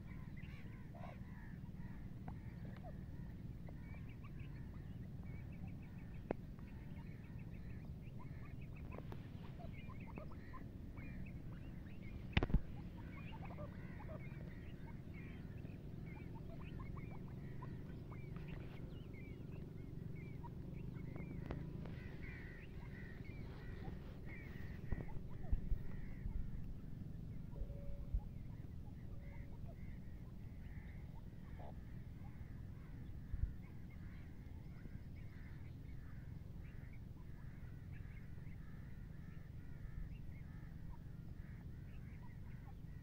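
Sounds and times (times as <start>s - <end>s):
birds chirping faintly: 0.0s - 43.0s
low steady rumble: 0.0s - 43.0s.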